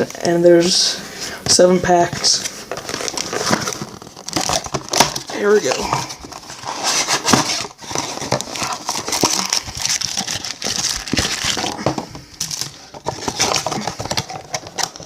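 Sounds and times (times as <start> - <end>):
wrappers and cardboard crinkling: 0.0 - 15.0.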